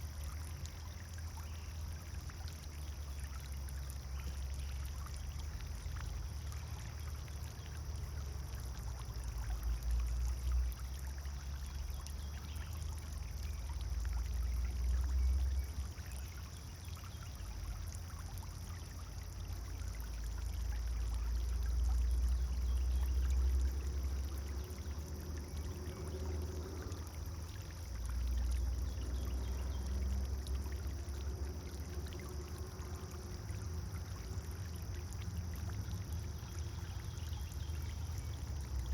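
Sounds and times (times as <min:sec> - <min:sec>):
fountain splashing into pond: 0:00.0 - 0:38.9.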